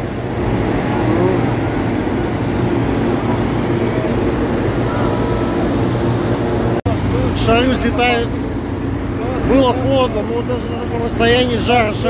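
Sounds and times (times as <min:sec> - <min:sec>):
inflator fans: 0:00.0 - 0:12.0
propane burners roaring: 0:00.0 - 0:12.0
faint voices: 0:00.6 - 0:12.0.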